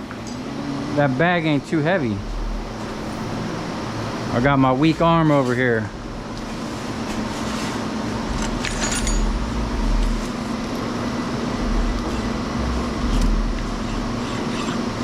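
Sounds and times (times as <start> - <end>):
machine droning with low hum: 0.0 - 15.0.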